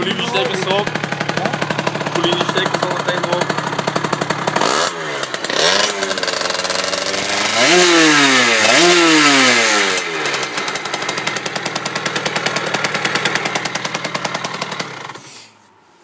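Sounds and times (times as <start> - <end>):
two-stroke engine revving and idling: 0.0 - 15.6.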